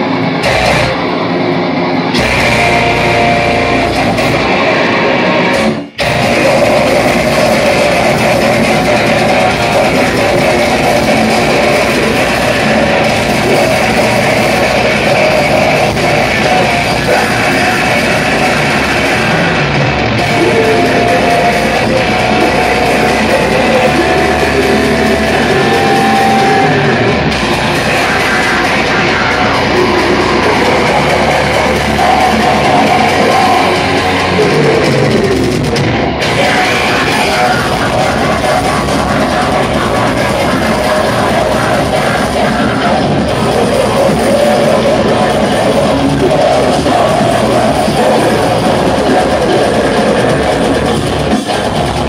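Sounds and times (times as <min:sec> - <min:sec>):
bass guitar: 0:00.0 - 0:52.0
distorted electric guitars: 0:00.0 - 0:52.0
drum kit: 0:00.0 - 0:52.0.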